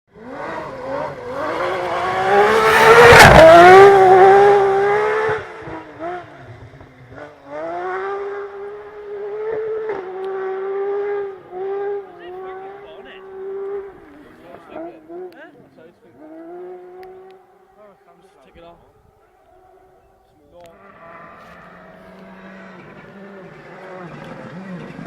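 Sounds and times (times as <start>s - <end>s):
rally car passing at full throttle: 0.1s - 25.0s.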